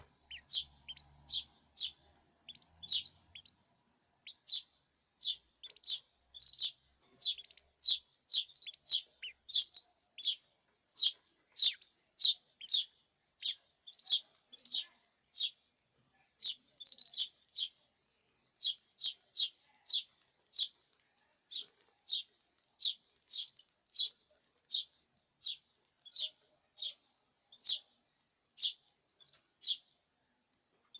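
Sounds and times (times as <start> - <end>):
canaries chirping: 0.0 - 15.6, 16.2 - 17.9, 18.5 - 20.8, 21.5 - 30.0.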